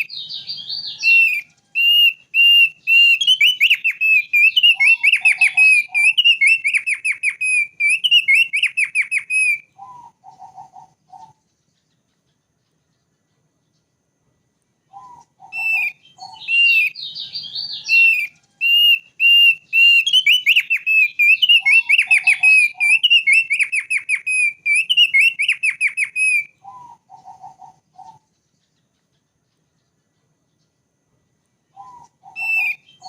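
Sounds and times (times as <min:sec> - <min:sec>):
bird singing whistled notes: 0:00.0 - 0:13.9, 0:14.8 - 0:30.8, 0:31.6 - 0:33.0
lower bird notes: 0:00.0 - 0:33.0.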